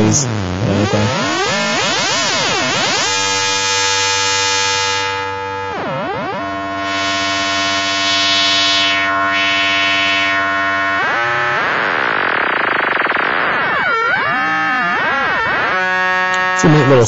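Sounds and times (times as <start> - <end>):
buzzy synthesizer tone: 0.0 - 17.0.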